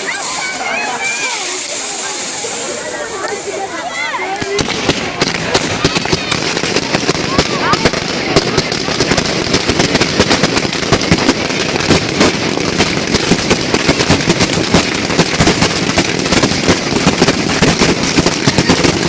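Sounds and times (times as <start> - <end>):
fireworks cracking and banging: 0.0 - 19.0.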